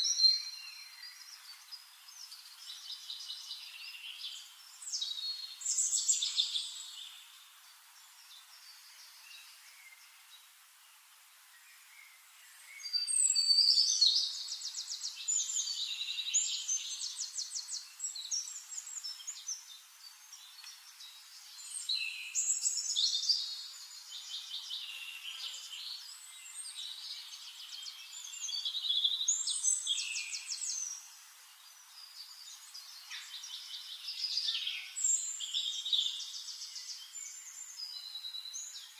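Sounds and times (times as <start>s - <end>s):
songbirds trilling and whistling: 0.0s - 10.6s, 11.5s - 38.9s.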